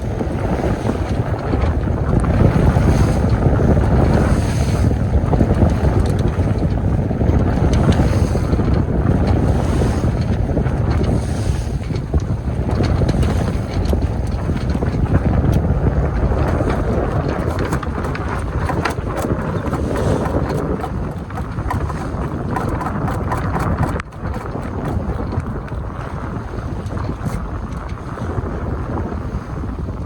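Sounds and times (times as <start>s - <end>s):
water rushing along hull: 0.0s - 30.0s
wind buffeting microphone: 0.0s - 30.0s.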